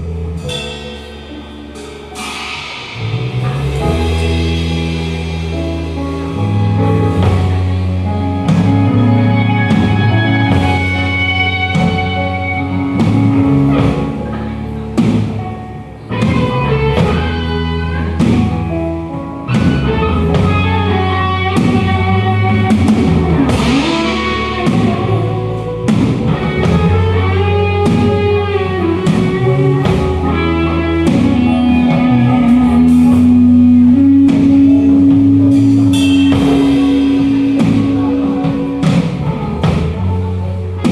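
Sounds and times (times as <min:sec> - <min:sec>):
lead guitar with bent notes: 0:00.0 - 0:40.9
rock band playing: 0:00.0 - 0:40.9.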